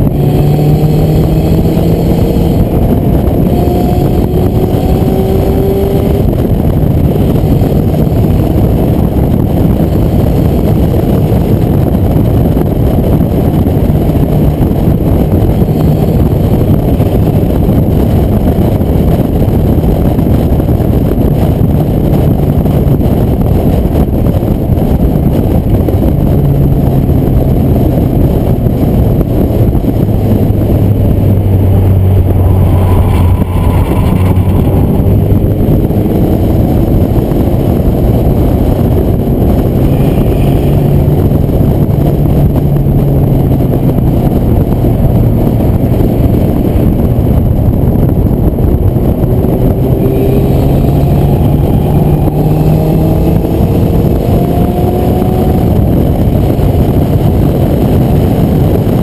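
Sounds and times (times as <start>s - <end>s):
car engine accelerating: 0.0s - 59.0s
wind and road noise: 0.0s - 59.0s.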